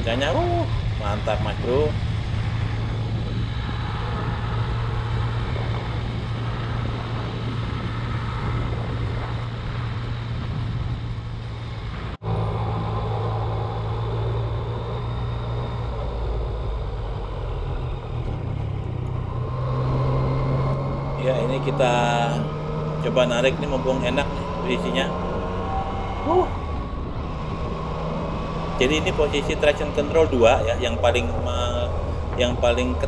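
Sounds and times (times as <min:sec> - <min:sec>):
motorcycle engine running: 0:00.0 - 0:33.0
road noise: 0:00.0 - 0:33.0.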